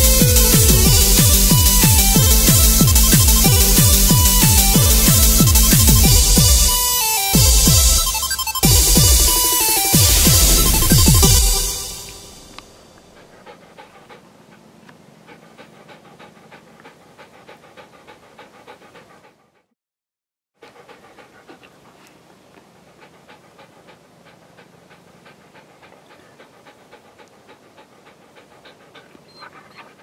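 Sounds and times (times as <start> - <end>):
dog panting rapidly: 0.0 - 19.8, 20.6 - 30.0.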